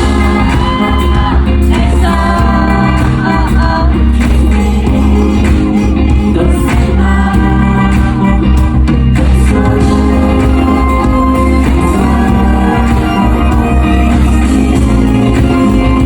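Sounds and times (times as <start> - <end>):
person singing: 0.0 - 16.0
pop song over sound system: 0.0 - 16.0.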